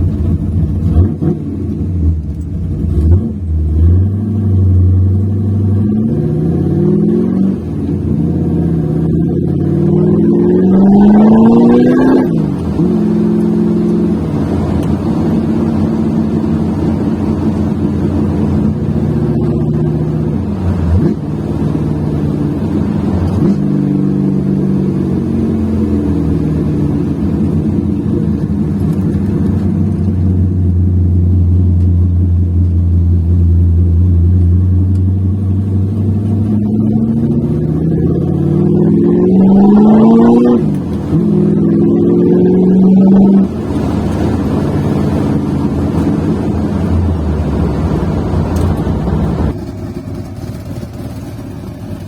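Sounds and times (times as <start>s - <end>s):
car engine running: 0.0s - 52.0s.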